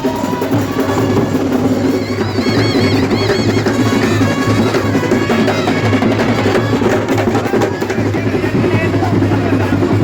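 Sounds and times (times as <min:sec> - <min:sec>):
loud dense drumming: 0:00.0 - 0:10.0
wavering wind instrument melody: 0:00.0 - 0:10.0.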